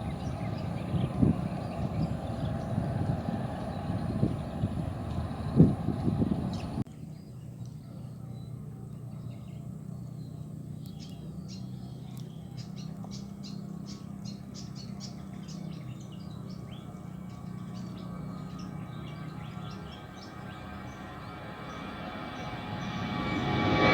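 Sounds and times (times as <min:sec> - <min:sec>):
small birds chirping: 0:00.0 - 0:22.5
steady low hum: 0:00.0 - 0:23.9.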